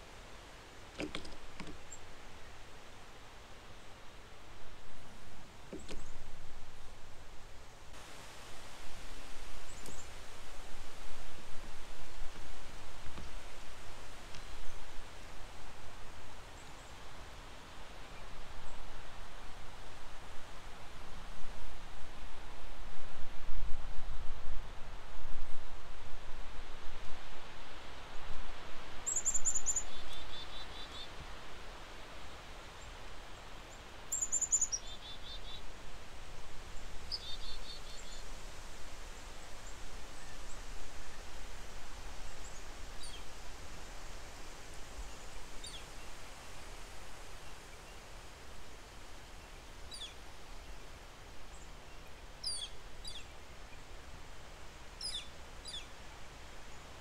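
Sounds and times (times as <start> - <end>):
wind hiss: 0.0 - 57.0.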